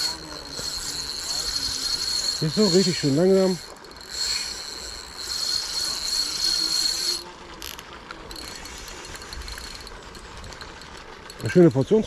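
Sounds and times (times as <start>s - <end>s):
fishing reel ratcheting whir: 0.0s - 12.0s.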